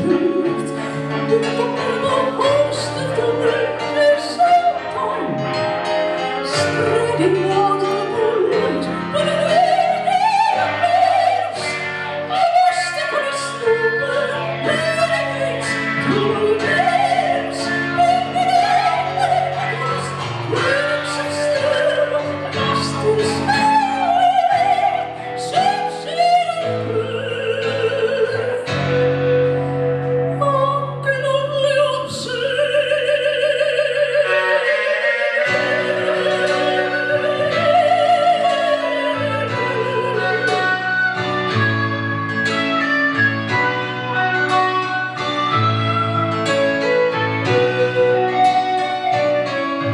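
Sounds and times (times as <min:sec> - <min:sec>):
woman singing operatically: 0:00.0 - 0:29.3, 0:30.3 - 0:41.2
guitar: 0:00.0 - 0:49.9
piano: 0:00.0 - 0:49.9.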